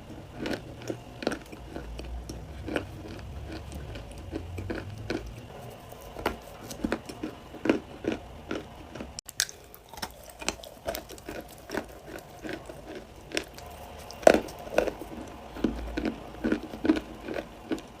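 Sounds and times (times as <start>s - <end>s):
clay crunching being chewed: 0.0s - 18.0s.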